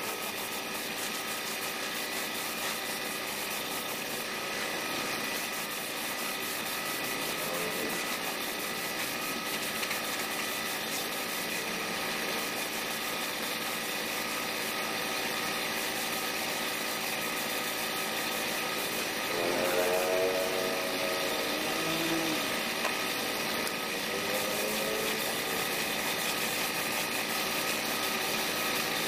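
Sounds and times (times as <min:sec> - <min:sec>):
air compressor humming: 0:00.0 - 0:29.0
spray gun hissing: 0:00.0 - 0:29.0.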